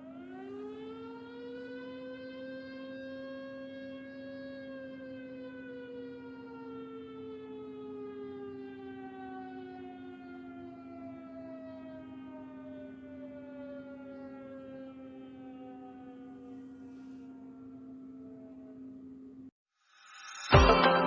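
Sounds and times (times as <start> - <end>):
siren winding down: 0.0 - 19.5.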